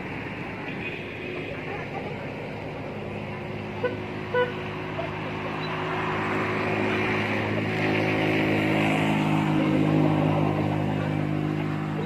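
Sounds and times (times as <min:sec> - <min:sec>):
vehicle engine running: 0:02.0 - 0:12.0.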